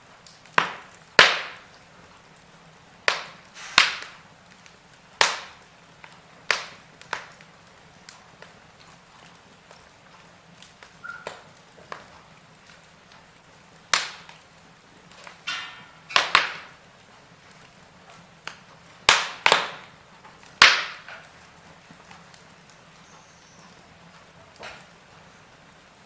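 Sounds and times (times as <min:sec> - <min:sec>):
burning logs popping: 0:00.0 - 0:26.0
fire hissing: 0:00.0 - 0:26.0
wood fire crackling: 0:00.0 - 0:26.0.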